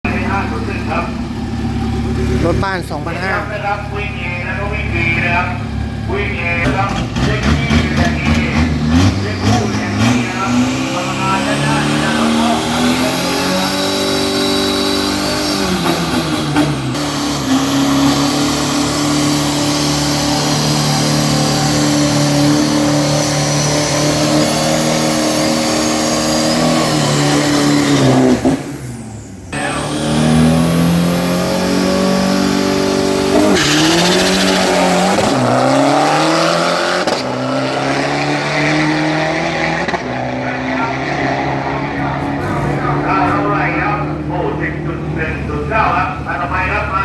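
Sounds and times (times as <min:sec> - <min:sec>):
pickup engine at full throttle: 0:00.0 - 0:47.0.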